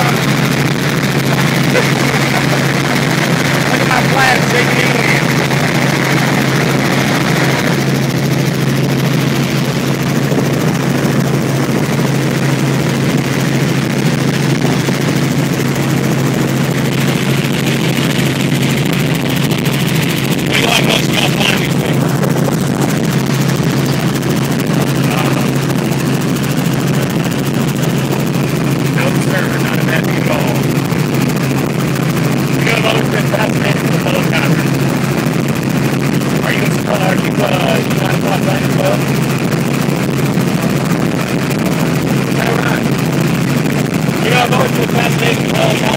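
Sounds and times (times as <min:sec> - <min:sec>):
helicopter rotor and engine drone: 0:00.0 - 0:45.9.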